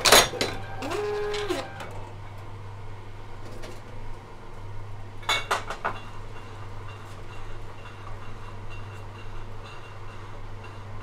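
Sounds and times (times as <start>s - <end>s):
conveyor drive humming: 0.0s - 11.0s.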